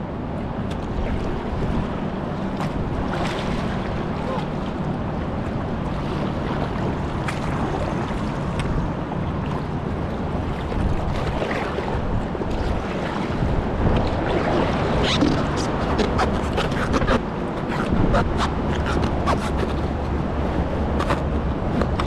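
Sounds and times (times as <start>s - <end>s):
river water rushing: 0.0s - 22.0s
wind rumbling on microphone: 0.0s - 22.0s.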